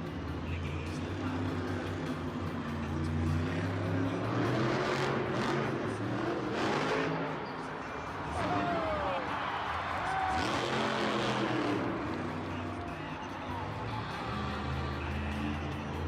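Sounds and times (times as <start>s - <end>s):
monster truck engine drone: 0.0s - 16.0s.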